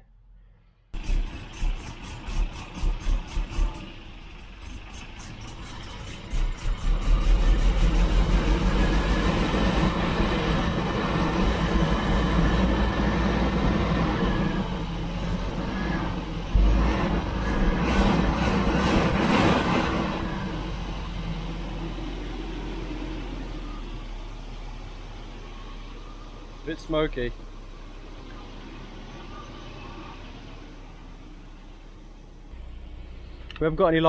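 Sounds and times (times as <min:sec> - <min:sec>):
car engine idling: 0:01.0 - 0:34.0.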